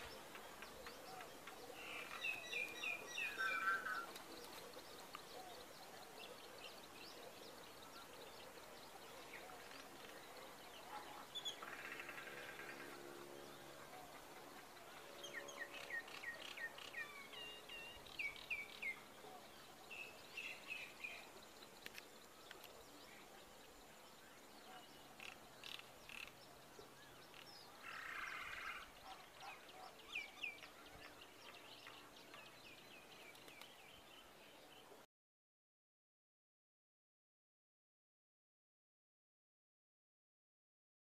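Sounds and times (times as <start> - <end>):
small birds chirping: 0.0 - 35.0
faint outdoor background noise: 0.0 - 35.1.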